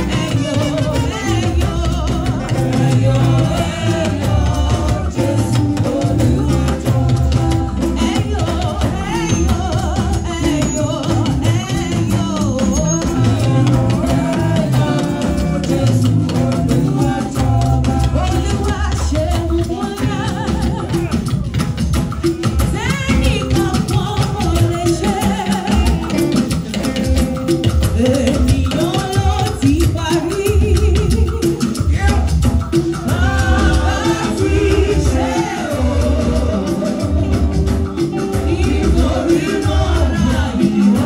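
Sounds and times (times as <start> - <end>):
voices singing: 0.0 - 27.2, 28.0 - 41.0
drums and percussion: 0.0 - 41.0.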